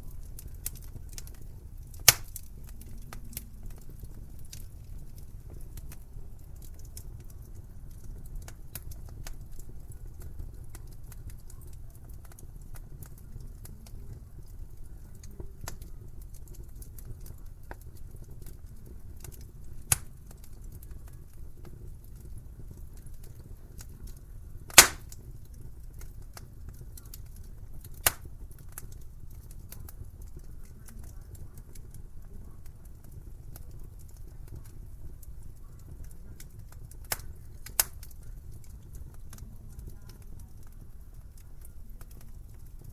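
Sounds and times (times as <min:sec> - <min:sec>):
burning wood popping: 0:00.0 - 0:42.9
low rumble of flames: 0:00.0 - 0:42.9
wood fire crackling: 0:00.0 - 0:42.9.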